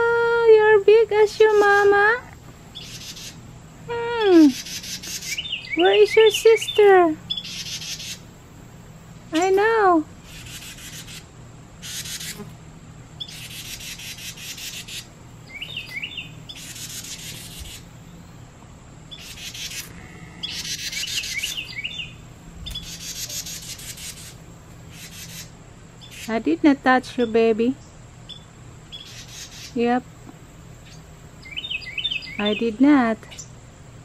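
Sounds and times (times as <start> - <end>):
wren harsh buzzy calls: 0.4 - 8.4, 9.2 - 18.2, 19.0 - 30.2, 30.8 - 33.6.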